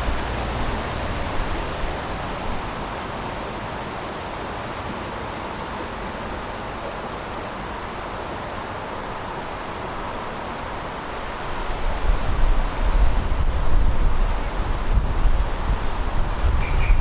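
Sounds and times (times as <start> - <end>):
outdoor ambient rushing hiss: 0.0 - 17.0.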